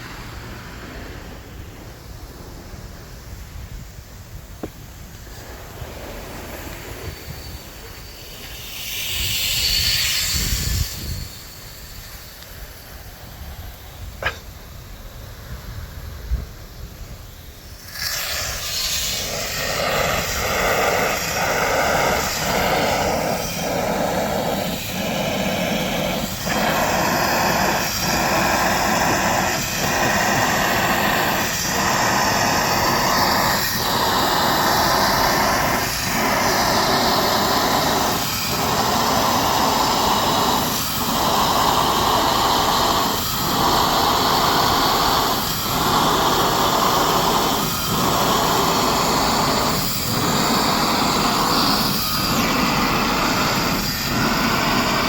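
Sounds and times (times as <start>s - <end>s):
sprinkler spraying water: 1.9s - 55.0s.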